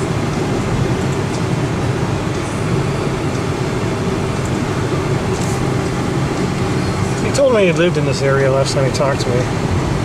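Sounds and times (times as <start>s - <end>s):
vehicle road and engine noise: 0.0s - 10.0s.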